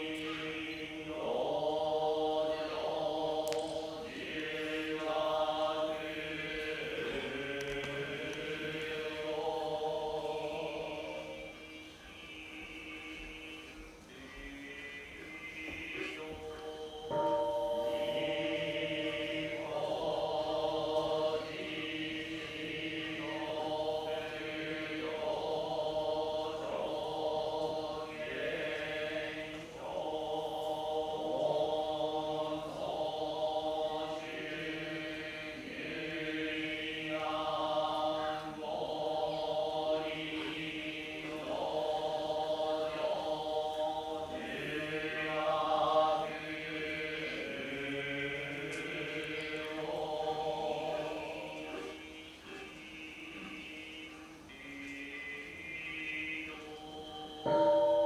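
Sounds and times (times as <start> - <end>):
monks chanting: 0.0 - 58.0.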